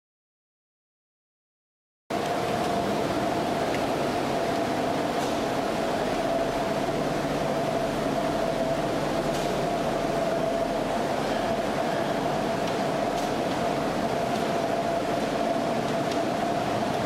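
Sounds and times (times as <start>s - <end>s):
machinery hum with rushing hiss: 2.1s - 17.0s.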